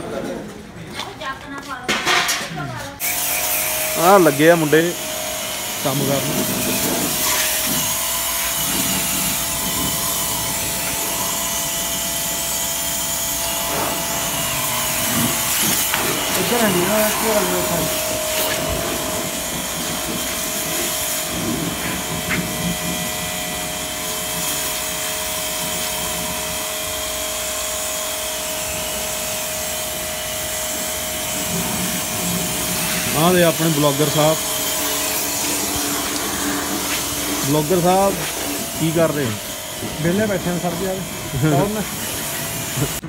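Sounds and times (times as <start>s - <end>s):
pressure washer whine: 3.0s - 43.0s
water jet hissing on metal: 3.0s - 43.0s.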